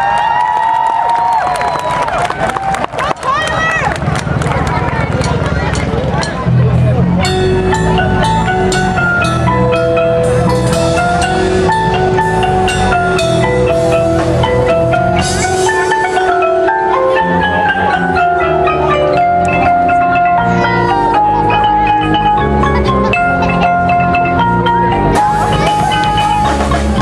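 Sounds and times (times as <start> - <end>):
steady low bass: 4.2 - 27.0
marimba melody: 5.0 - 27.0.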